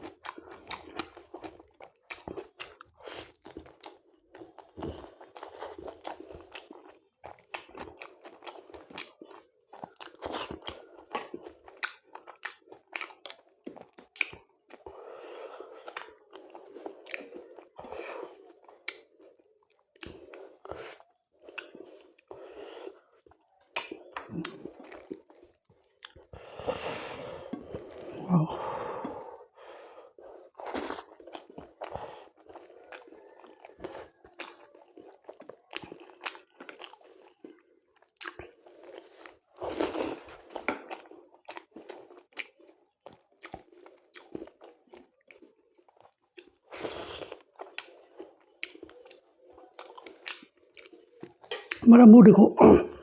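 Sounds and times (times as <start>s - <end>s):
chewing food with wet mouth clicks: 0.0s - 26.4s, 30.4s - 51.8s
food crunching: 0.0s - 26.5s, 30.5s - 51.8s.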